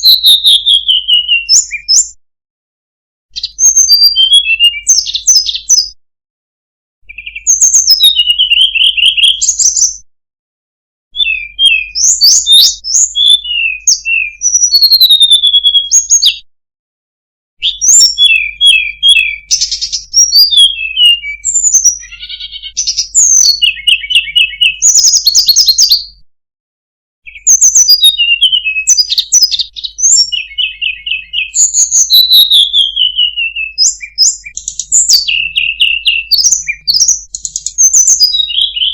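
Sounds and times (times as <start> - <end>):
bird song chirps and trills: 0.0 - 2.2, 3.3 - 6.0, 7.0 - 10.0, 11.2 - 16.4, 17.6 - 26.2, 27.3 - 38.9.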